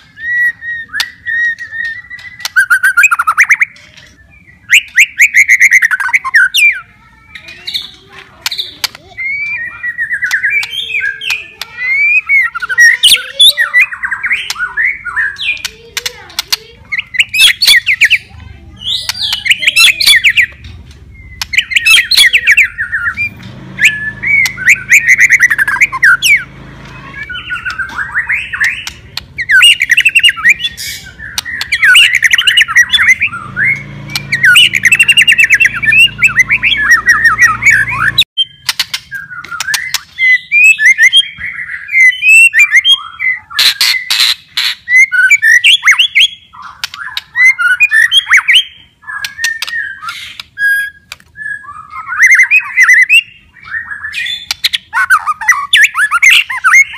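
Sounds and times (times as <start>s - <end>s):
bird singing trills and warbles: 0.0s - 56.9s
sharp clicking bird notes: 0.0s - 56.9s.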